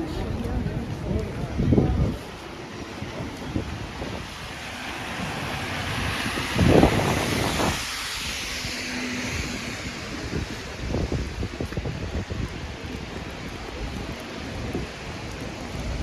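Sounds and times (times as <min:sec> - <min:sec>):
vehicle passing on wet street: 0:00.0 - 0:16.0.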